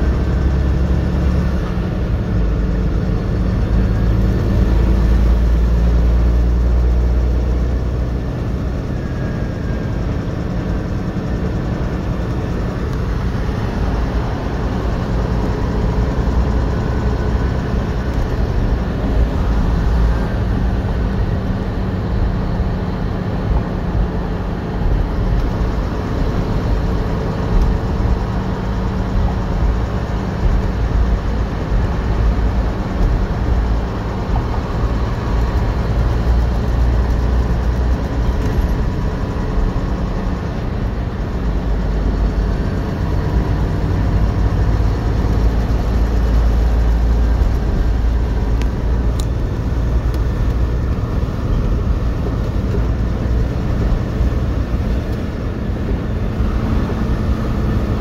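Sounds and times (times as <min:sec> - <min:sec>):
truck engine and road noise: 0:00.0 - 0:58.0.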